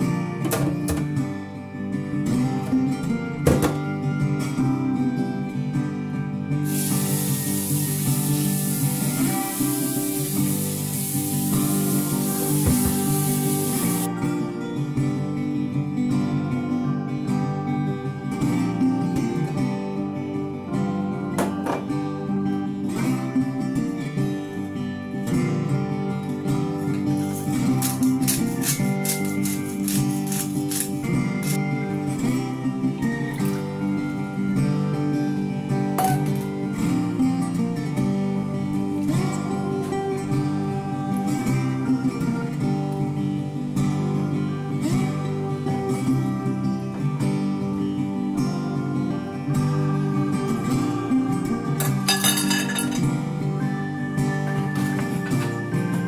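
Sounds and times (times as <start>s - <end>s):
acoustic guitar strummed and plucked: 0.0s - 56.0s.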